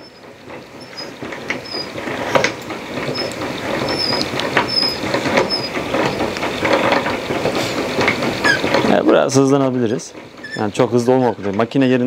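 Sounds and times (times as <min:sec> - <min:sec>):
high squeaks and clicks: 0:00.0 - 0:09.1, 0:10.3 - 0:11.7
honey extractor rumbling: 0:00.0 - 0:12.0.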